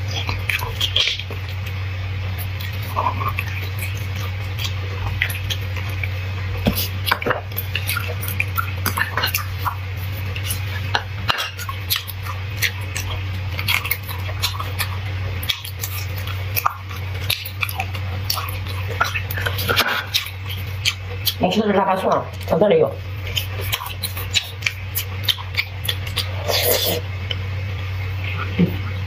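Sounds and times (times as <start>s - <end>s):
person chewing and sucking: 0.0s - 21.4s, 23.1s - 27.5s
low hum: 0.0s - 29.0s.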